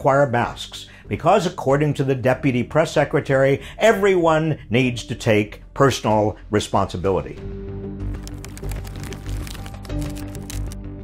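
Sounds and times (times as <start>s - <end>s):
background music with sustained tones: 0.0s - 11.0s.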